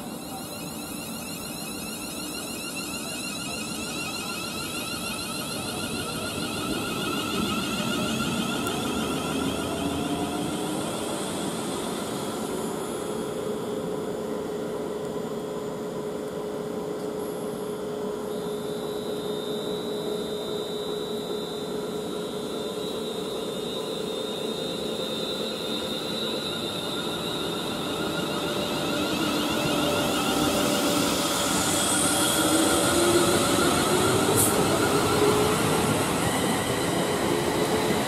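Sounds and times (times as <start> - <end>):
electric train running: 0.0 - 14.2, 18.3 - 38.0.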